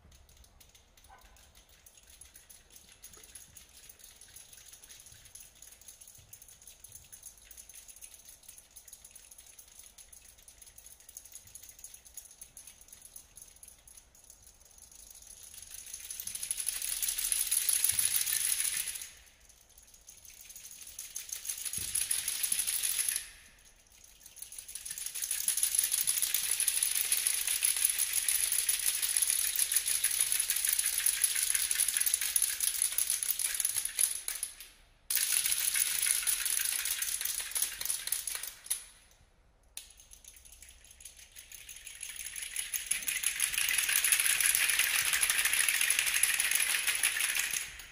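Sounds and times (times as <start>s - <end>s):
chamber ensemble rapid clicks: 0.0s - 23.4s, 24.1s - 38.9s, 39.8s - 47.9s.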